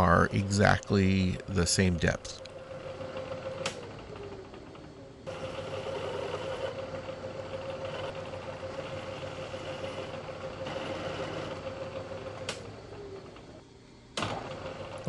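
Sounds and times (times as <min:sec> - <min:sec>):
milling machine whine: 0:00.0 - 0:15.0.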